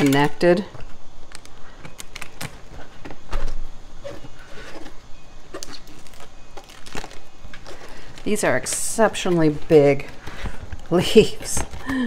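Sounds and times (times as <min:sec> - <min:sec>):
cabbage leaves crackling and snapping: 0:00.0 - 0:12.0.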